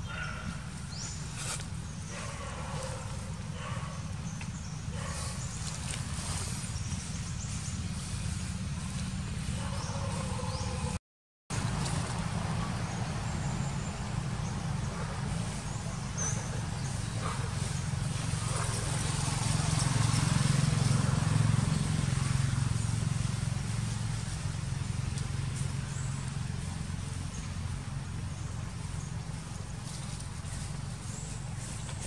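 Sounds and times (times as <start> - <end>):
motor engine humming: 0.0 - 32.0.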